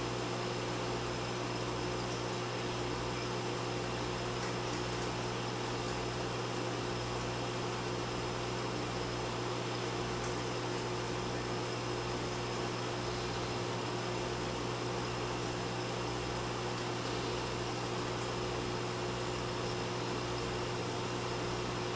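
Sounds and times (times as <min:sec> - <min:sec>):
aquarium pumps humming and hissing: 0:00.0 - 0:21.9.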